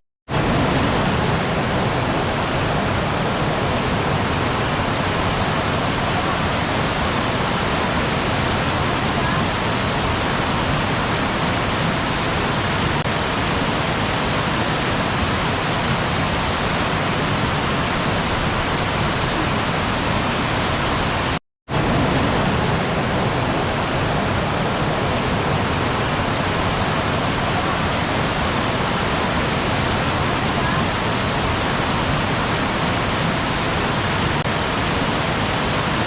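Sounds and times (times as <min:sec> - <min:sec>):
waterfall roaring: 0:00.3 - 0:36.0.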